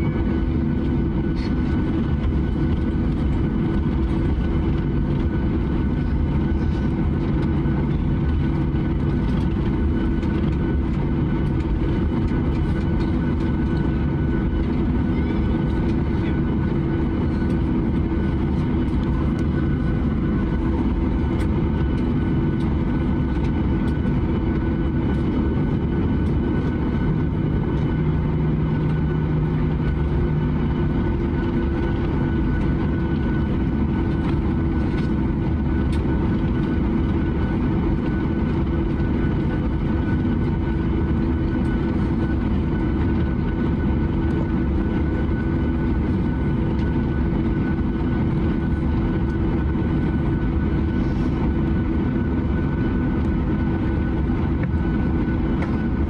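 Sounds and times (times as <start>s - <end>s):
high engine whine: 0.0s - 56.0s
jet engine drone in cabin: 0.0s - 56.0s.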